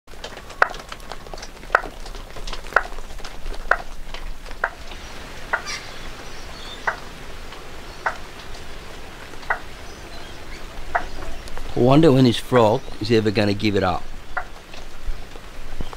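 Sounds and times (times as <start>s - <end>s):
rain hissing: 0.1s - 15.9s.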